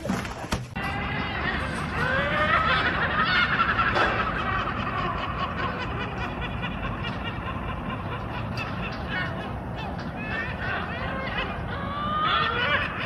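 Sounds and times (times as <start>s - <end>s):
gulls laughing calls: 0.0s - 13.0s.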